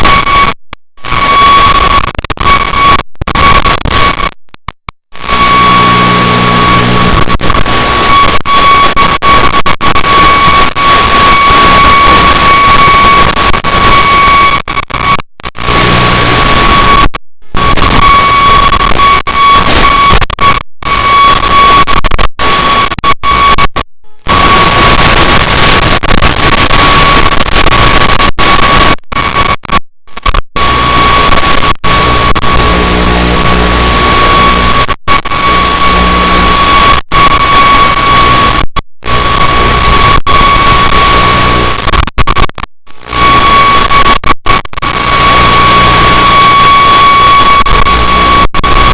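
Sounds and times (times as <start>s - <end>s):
radio static hiss: 0.0s - 48.9s
steady high whine: 5.1s - 48.9s.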